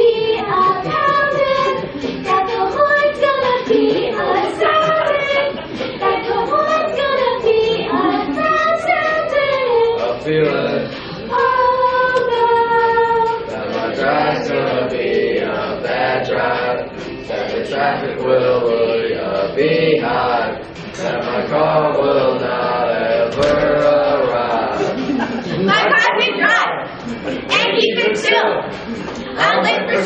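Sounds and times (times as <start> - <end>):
children singing: 0.0 - 30.0.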